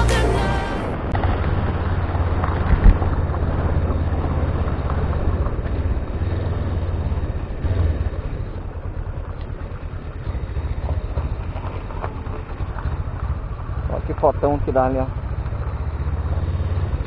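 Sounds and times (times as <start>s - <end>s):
motorcycle engine running: 1.1s - 17.0s.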